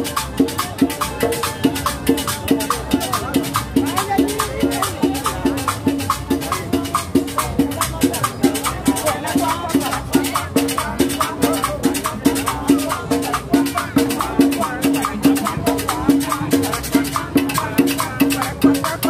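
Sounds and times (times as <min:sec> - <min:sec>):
conga drum: 0:00.0 - 0:19.0
shaker: 0:00.0 - 0:19.0.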